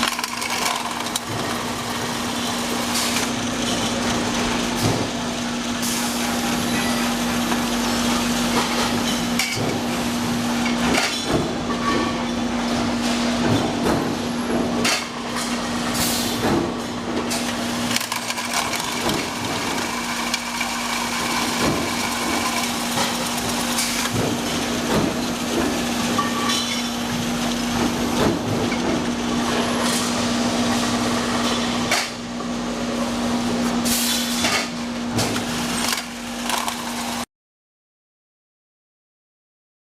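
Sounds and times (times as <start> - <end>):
steady machine hum: 0.0 - 33.9.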